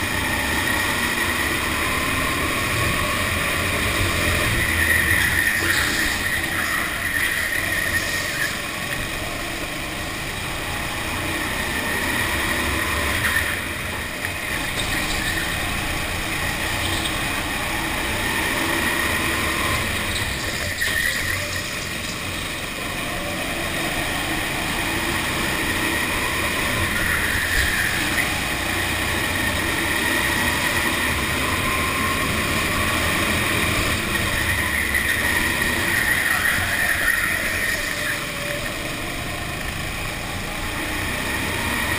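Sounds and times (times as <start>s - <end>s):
go-kart motor running: 0.0s - 41.9s.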